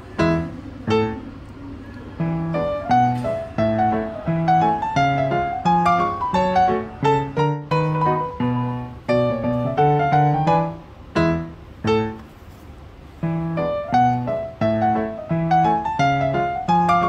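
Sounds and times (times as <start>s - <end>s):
slow piano melody: 0.0s - 12.5s, 13.1s - 17.0s.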